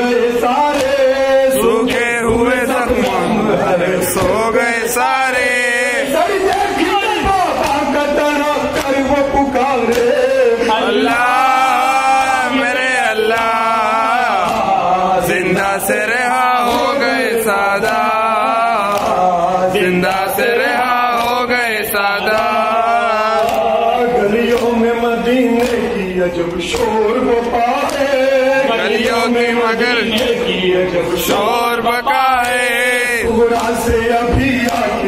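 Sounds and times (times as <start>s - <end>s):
man chanting into microphone: 0.0s - 35.0s.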